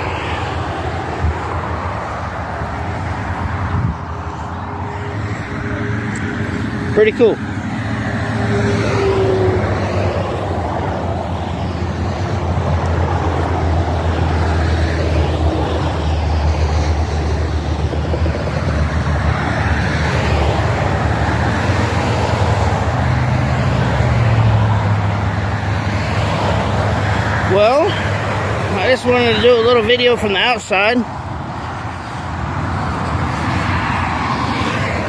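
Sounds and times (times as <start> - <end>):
highway traffic rumble: 0.0 - 35.0.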